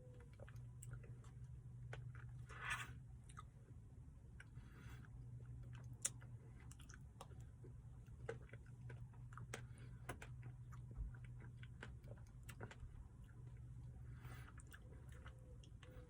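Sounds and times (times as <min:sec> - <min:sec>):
person chewing: 0:00.0 - 0:16.0
steady low hum: 0:00.0 - 0:16.0.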